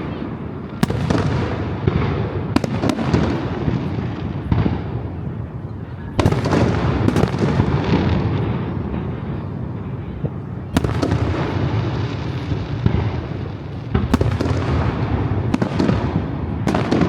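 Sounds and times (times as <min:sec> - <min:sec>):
sharp firework cracks: 0:00.0 - 0:05.2, 0:06.2 - 0:08.8, 0:10.7 - 0:17.0
fireworks booming: 0:00.0 - 0:17.0.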